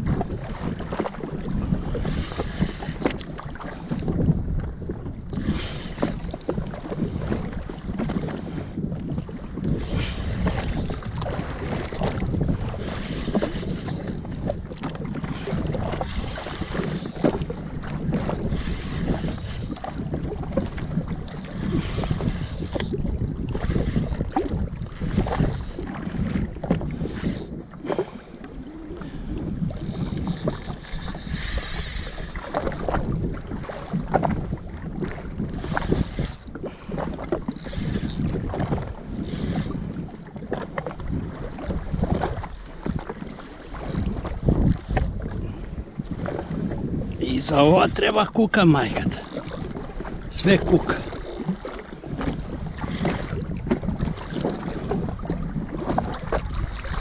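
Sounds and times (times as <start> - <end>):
water noise: 0.0 - 57.0
wind buffeting microphone: 0.0 - 57.0.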